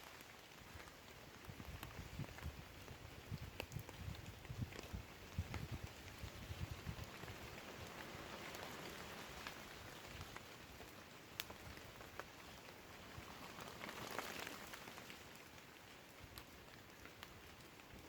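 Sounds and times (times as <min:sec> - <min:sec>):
light rain hissing: 0:00.0 - 0:18.0
raindrops tapping: 0:00.0 - 0:18.0.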